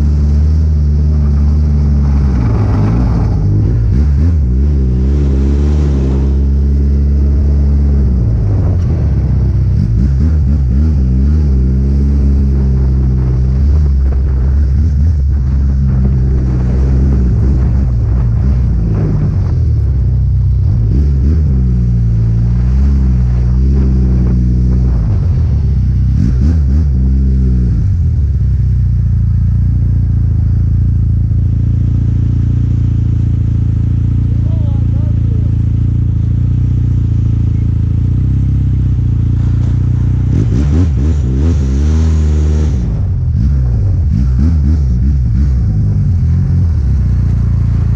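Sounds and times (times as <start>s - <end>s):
snowmobile engine revving: 0.0s - 28.0s, 37.5s - 47.9s.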